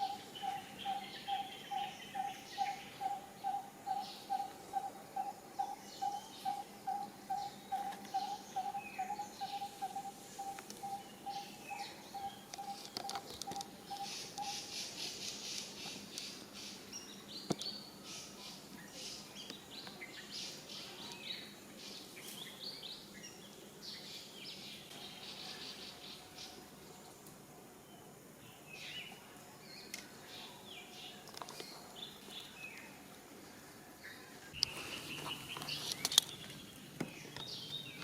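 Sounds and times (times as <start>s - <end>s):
birds chirping and calling: 0.0s - 26.6s, 34.0s - 38.0s.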